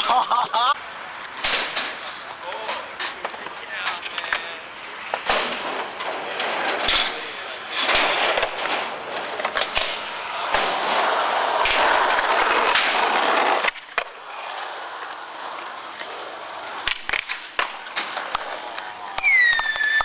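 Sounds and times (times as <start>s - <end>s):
skateboard wheels rolling on concrete: 0.0s - 20.0s
skateboard clacks: 1.2s - 20.0s.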